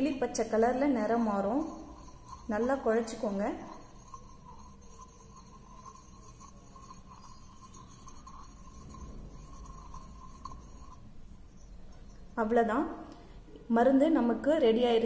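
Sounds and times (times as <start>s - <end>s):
stirring paste in a bowl: 0.0s - 12.6s.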